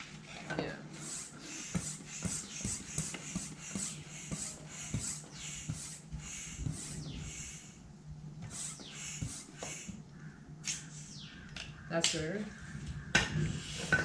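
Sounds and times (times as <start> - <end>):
bicycle pump strokes hissing: 0.0 - 11.2, 13.4 - 14.0.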